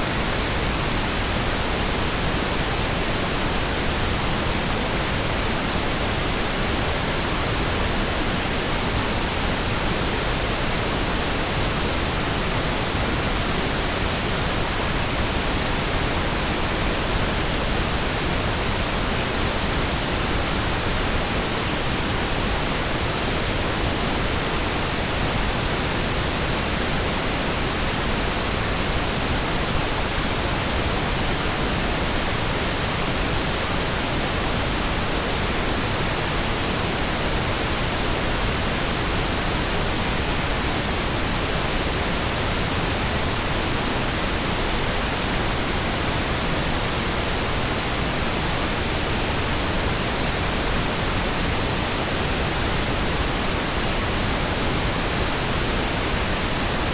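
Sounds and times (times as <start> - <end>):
pink noise hiss: 0.0 - 56.9.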